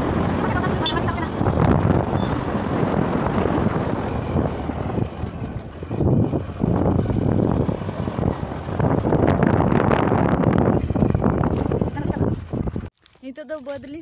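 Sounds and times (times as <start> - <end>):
wind buffeting microphone: 0.0 - 12.9
motorbike running: 0.0 - 13.1.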